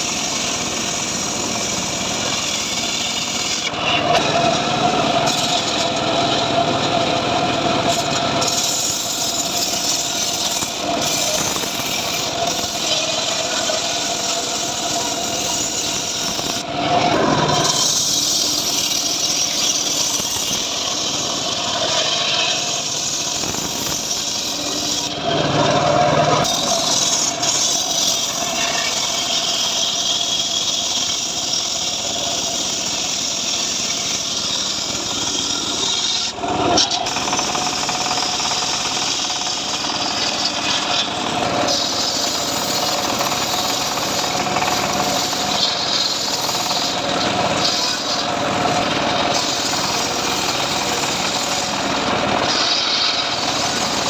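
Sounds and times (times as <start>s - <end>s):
saw blade cutting log: 0.0s - 54.0s.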